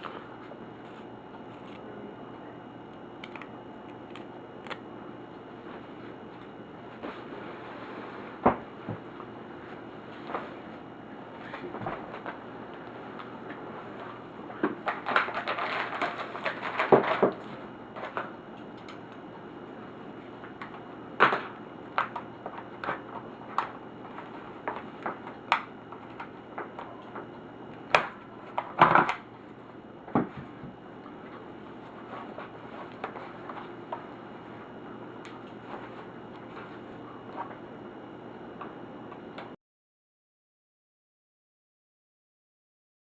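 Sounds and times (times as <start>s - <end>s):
faint steady hum: 0.0s - 39.6s.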